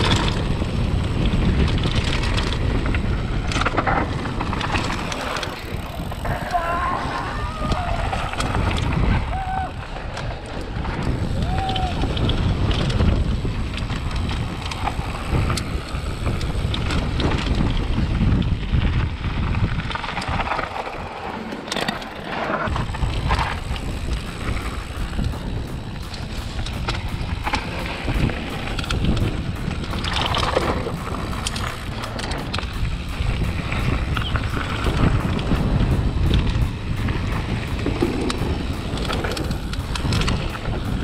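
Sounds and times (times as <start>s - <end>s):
wind buffeting microphone: 0.0s - 21.2s, 22.7s - 41.0s
bike rattling: 0.0s - 41.0s.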